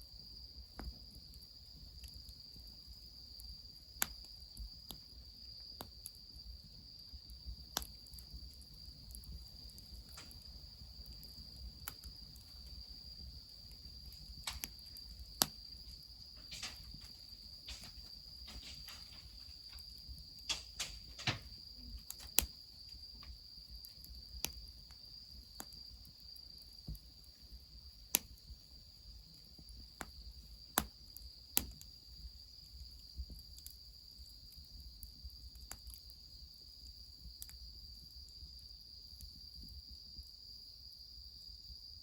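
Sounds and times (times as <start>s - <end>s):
wood fire crackling: 0.1s - 40.4s
high-pitched insect trill: 1.3s - 42.0s.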